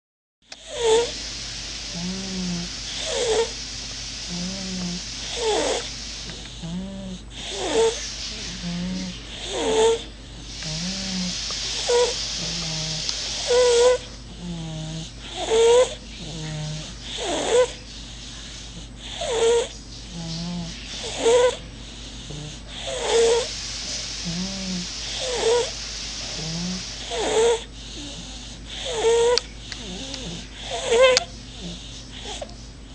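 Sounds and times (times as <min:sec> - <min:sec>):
baby snoring: 0:00.5 - 0:01.2, 0:01.8 - 0:03.6, 0:04.2 - 0:32.6
breathy sounds: 0:04.2 - 0:32.9.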